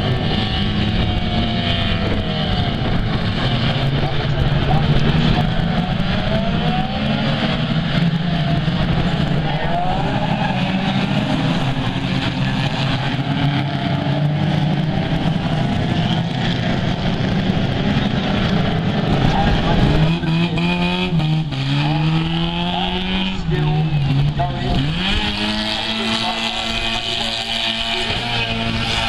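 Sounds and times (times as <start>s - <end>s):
racing car engines revving: 0.0s - 29.0s.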